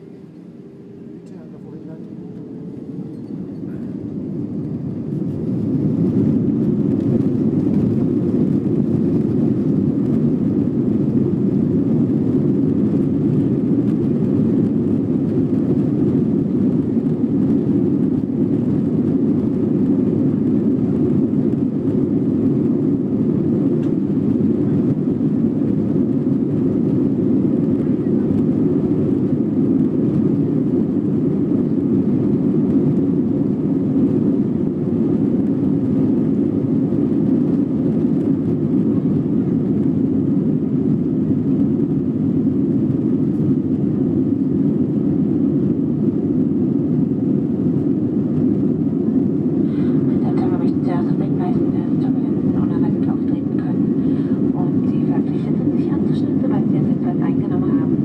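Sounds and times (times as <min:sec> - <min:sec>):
jet engines at takeoff thrust: 0:00.0 - 0:58.0.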